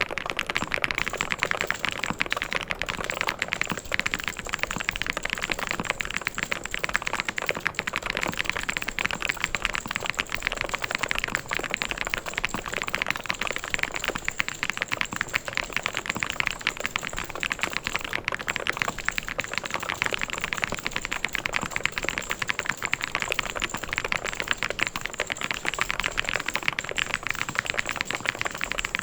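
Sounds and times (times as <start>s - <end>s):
fast mechanical keyboard typing: 0.0s - 29.0s.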